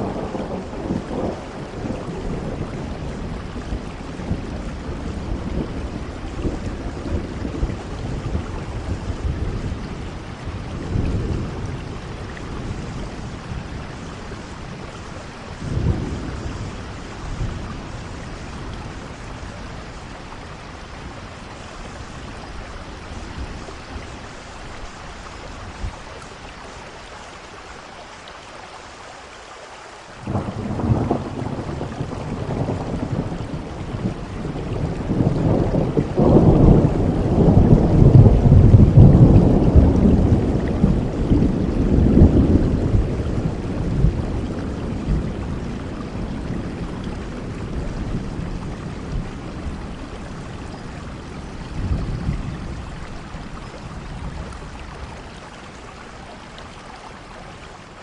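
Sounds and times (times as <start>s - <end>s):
thunder rumbling: 0.0s - 26.8s, 30.2s - 56.3s
steady rain: 0.0s - 58.0s.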